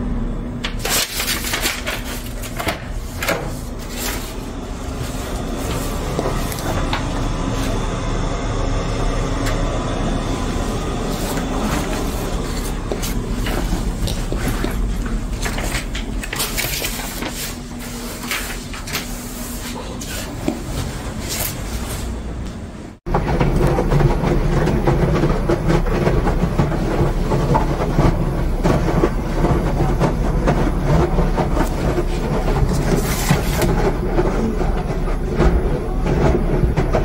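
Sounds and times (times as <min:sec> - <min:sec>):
washer-dryer rumbling and churning: 0:00.0 - 0:37.0.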